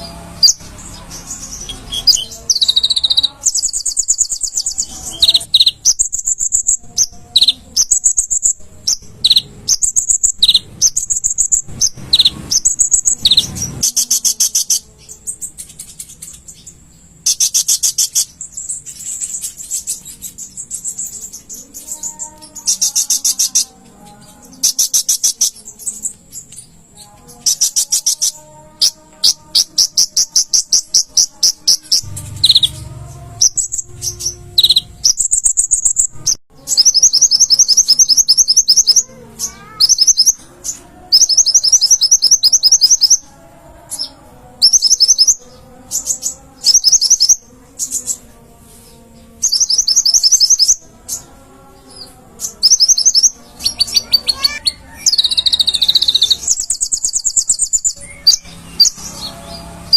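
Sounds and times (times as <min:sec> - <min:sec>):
bird singing fast trills: 0:00.0 - 0:59.9.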